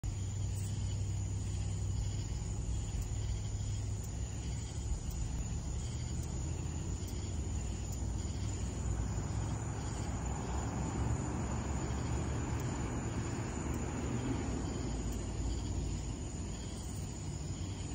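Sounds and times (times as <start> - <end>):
night insects trilling: 0.0 - 17.9.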